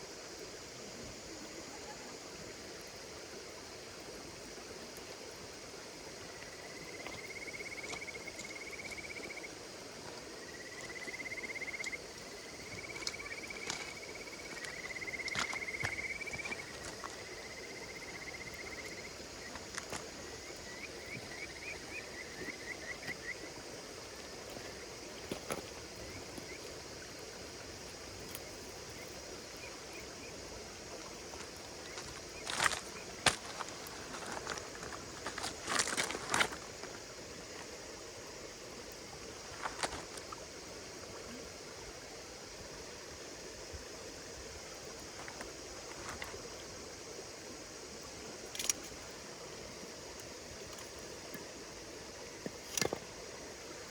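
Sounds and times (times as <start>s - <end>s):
insects trilling: 0.0s - 53.9s
crackling campfire: 0.4s - 43.8s, 47.4s - 53.9s.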